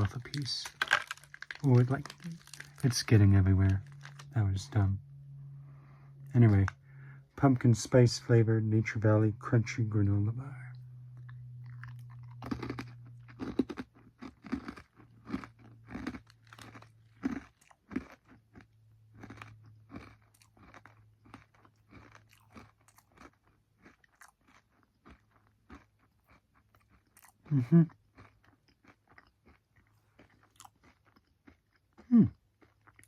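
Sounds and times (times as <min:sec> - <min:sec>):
person chewing crunchy granola bar: 0:00.0 - 0:04.9, 0:06.2 - 0:07.0, 0:10.5 - 0:33.0.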